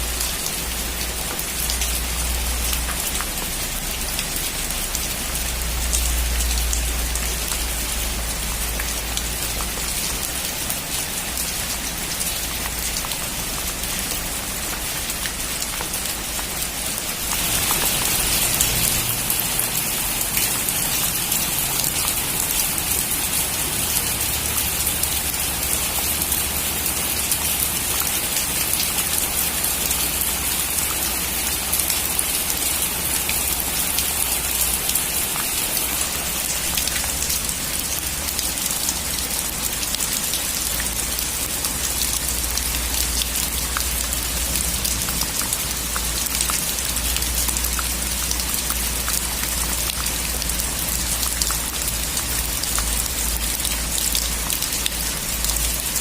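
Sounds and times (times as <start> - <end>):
rain on a metal roof: 0.0 - 56.0.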